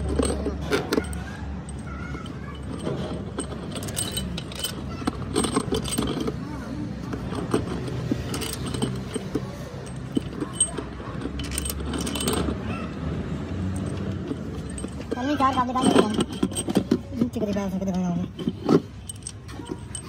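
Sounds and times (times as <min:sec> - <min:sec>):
metal tools clinking: 0:00.0 - 0:20.0.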